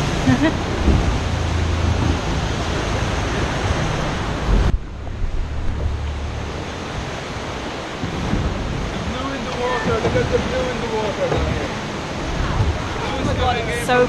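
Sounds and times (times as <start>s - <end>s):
wind on microphone: 0.0s - 10.6s, 11.3s - 14.0s
boat motor humming: 0.0s - 14.0s
sea water splashing on rocks: 0.8s - 14.0s.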